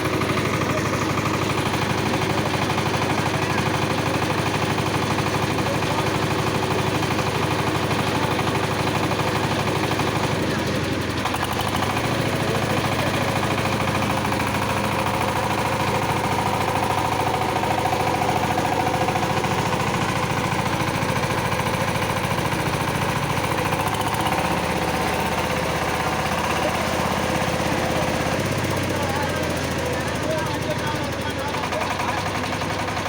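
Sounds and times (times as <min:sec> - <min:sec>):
diesel engine knocking: 0:00.0 - 0:33.0.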